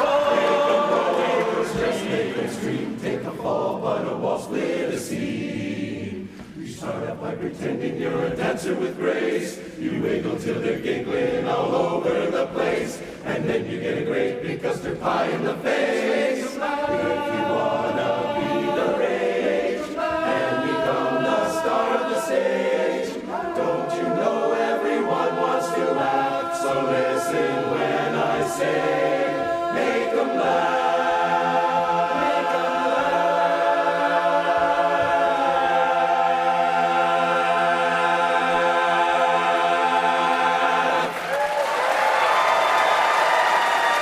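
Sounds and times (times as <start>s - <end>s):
chorus singing a cappella: 0.0s - 44.0s.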